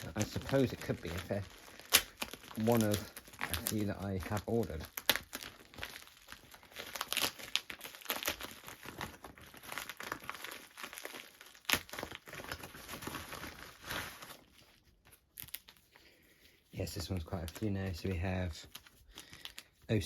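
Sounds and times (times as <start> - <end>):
packaging crinkling and tearing: 0.0 - 16.2, 16.8 - 20.0.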